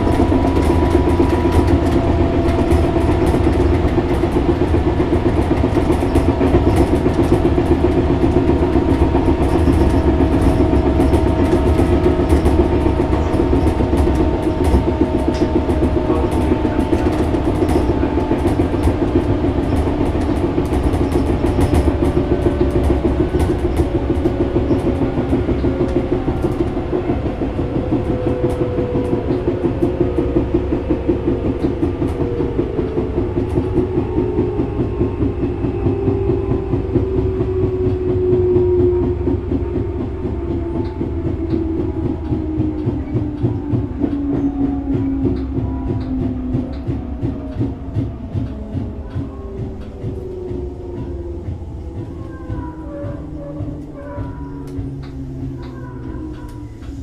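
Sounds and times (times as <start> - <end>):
traction motor and gear whine: 0.0 - 57.0
train doors rattling: 0.0 - 57.0.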